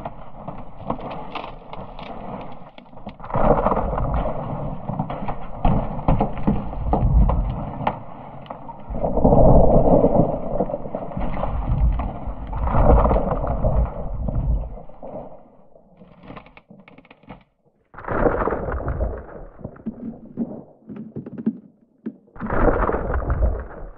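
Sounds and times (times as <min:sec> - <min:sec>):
deep rumble of collapsing ice: 0:00.0 - 0:23.9
ice cracking and crackling: 0:00.0 - 0:23.9.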